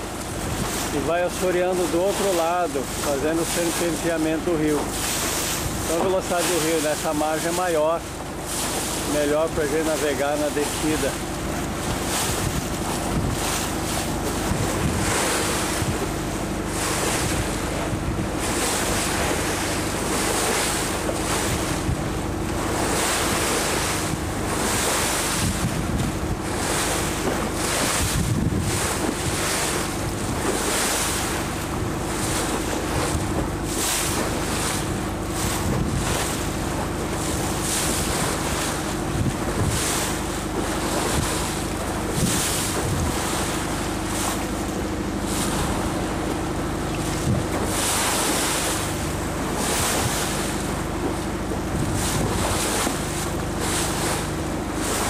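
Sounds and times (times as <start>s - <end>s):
boat engine humming: 0.0s - 55.0s
water rushing past hull: 0.0s - 55.0s
wind buffeting microphone: 0.2s - 55.0s.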